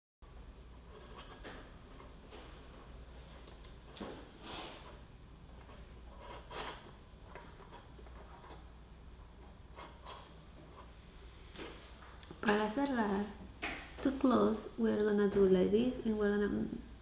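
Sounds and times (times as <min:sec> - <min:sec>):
low steady hum: 0:00.2 - 0:17.0.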